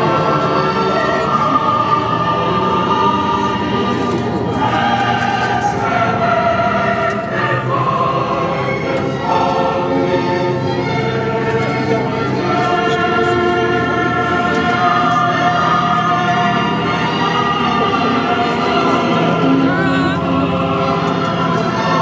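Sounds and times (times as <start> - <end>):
choir singing held notes: 0.0 - 22.0.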